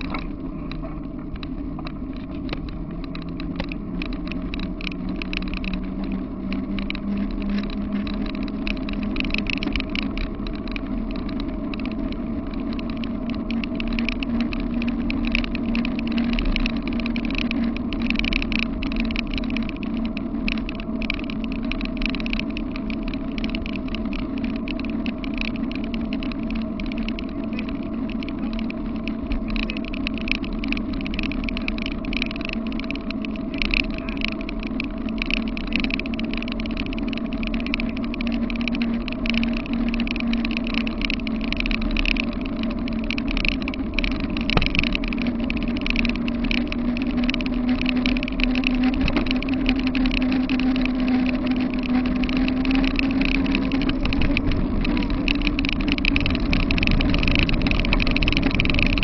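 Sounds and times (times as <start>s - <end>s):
fast rattle: 0.0s - 59.0s
steady hum: 0.0s - 59.0s
wheels rolling on pavement: 0.0s - 59.0s.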